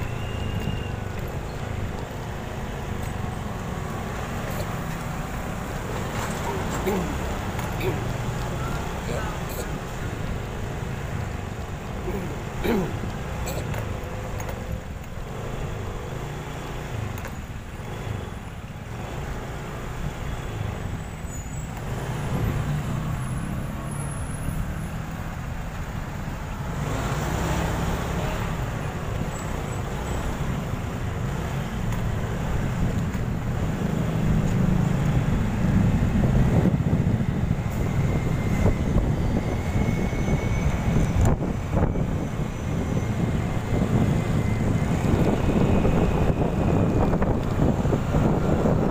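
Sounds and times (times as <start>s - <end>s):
motorcycle engine and traffic rumble: 0.0s - 48.9s.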